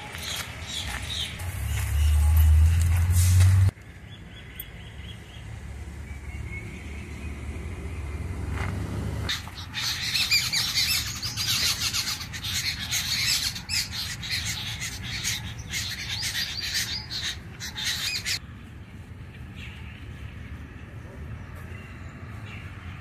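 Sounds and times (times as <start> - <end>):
birds squawking and chattering: 0.0 - 18.4.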